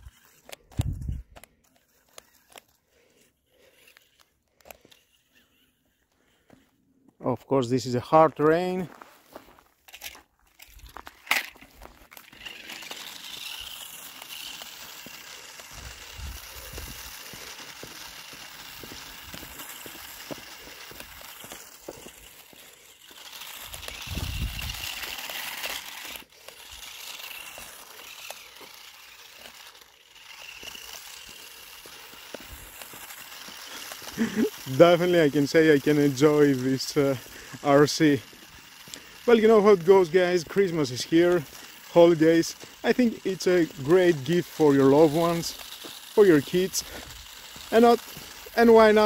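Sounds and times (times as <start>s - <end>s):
small electric motor whining: 0.0s - 7.2s, 8.0s - 49.0s
tyres crackling over rough ground: 0.0s - 49.0s.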